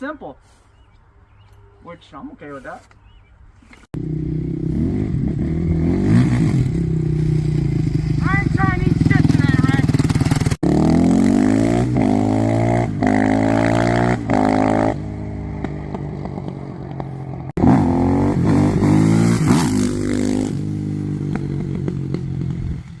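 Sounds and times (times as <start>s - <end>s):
motorcycle engine accelerating: 3.9s - 23.0s.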